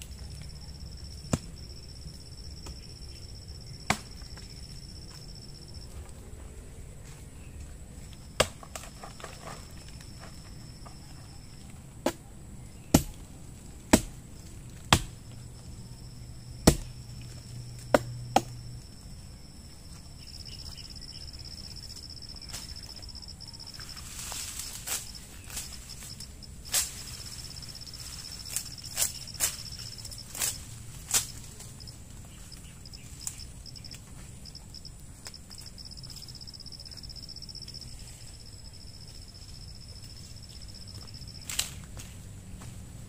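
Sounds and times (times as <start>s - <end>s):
high insect trill: 0.0s - 43.0s.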